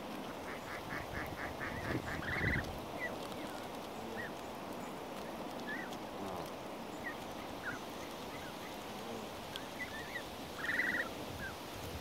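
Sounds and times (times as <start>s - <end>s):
goslings peeping: 0.2s - 4.4s, 5.2s - 11.6s.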